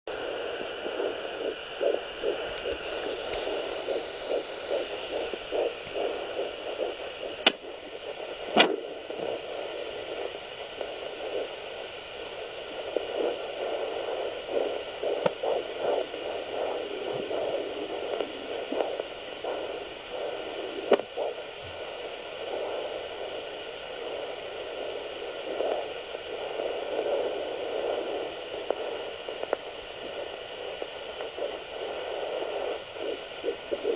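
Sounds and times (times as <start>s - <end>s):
fetal heartbeat pulsing: 0.1s - 33.9s
steady hiss: 0.1s - 33.9s.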